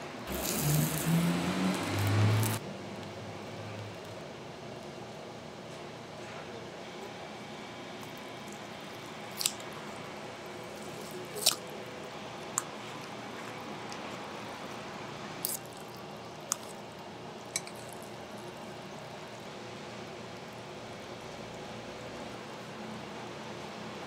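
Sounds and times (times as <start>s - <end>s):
steady room hum: 0.0s - 24.0s.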